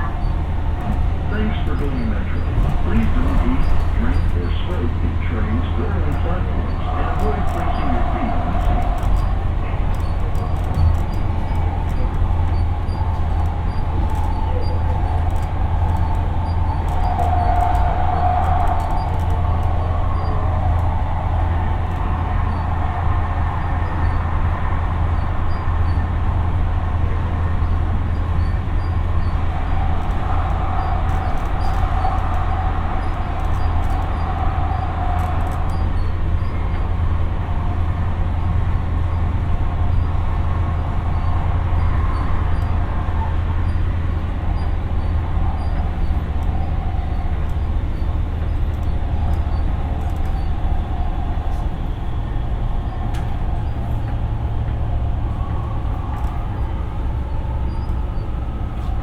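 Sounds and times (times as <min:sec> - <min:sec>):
light rail train rumble: 0:00.0 - 0:59.0
traction motor whine: 0:00.0 - 0:59.0.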